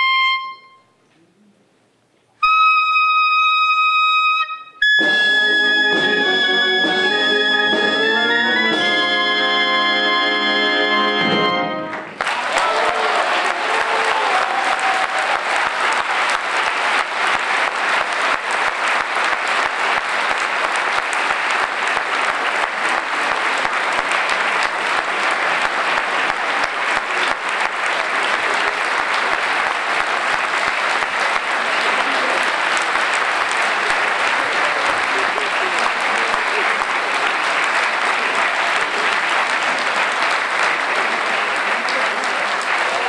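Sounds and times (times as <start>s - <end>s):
audience applause: 5.6s - 43.0s.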